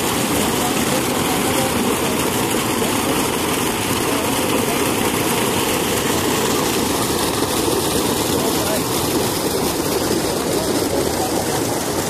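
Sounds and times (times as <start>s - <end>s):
water pouring from pipe: 0.0s - 12.0s
water splashing on ground: 0.0s - 12.0s.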